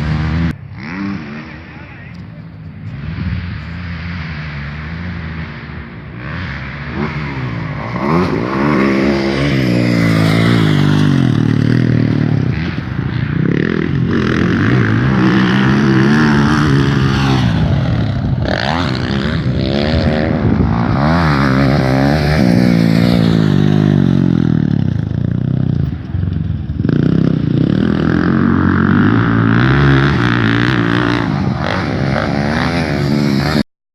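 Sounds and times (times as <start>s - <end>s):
motocross engines revving: 0.0s - 33.7s.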